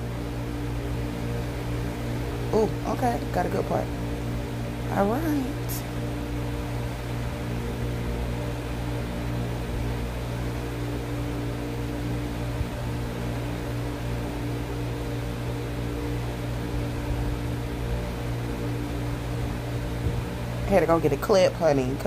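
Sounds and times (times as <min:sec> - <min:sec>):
machine hum with hiss: 0:00.0 - 0:22.0.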